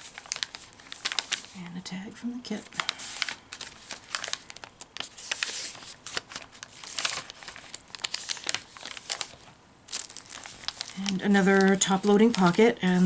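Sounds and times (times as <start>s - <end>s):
paper pages rustling and crinkling: 0.0s - 1.7s, 2.6s - 13.0s.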